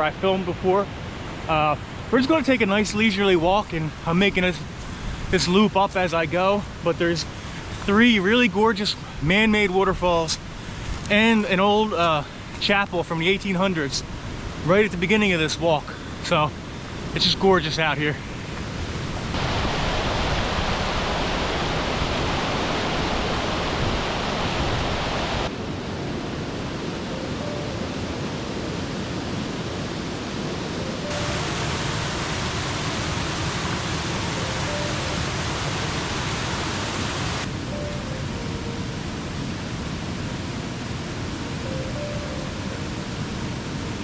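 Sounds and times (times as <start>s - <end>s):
rushing mountain stream: 0.0s - 44.0s.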